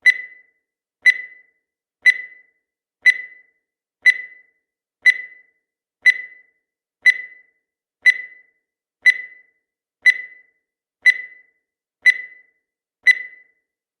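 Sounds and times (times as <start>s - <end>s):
timer ticks with brief ring: 0.0s - 13.7s.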